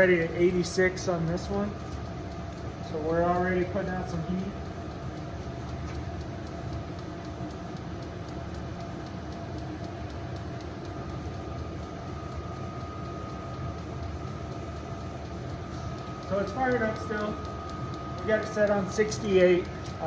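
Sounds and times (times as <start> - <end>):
fuel pump ticking: 0.0 - 12.5, 13.1 - 20.0
heater fan hum and burner rumble: 0.0 - 20.0.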